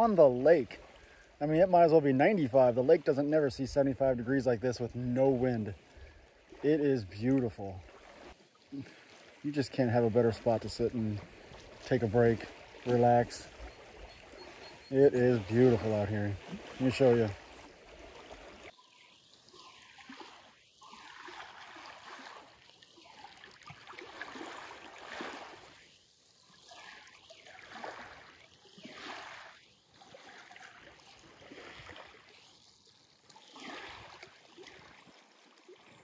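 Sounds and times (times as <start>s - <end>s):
waves lapping against rocks: 0.0s - 36.0s.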